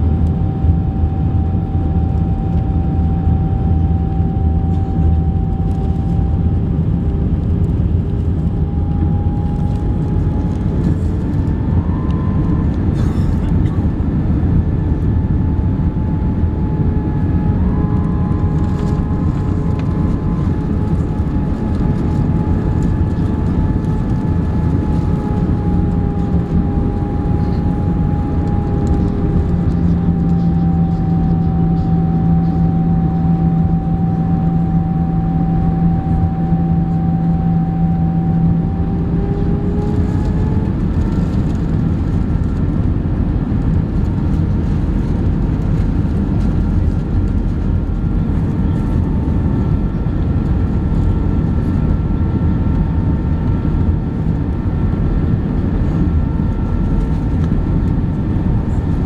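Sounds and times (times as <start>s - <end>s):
high engine whine: 0.0s - 59.0s
jet engine and airflow roar: 0.0s - 59.0s.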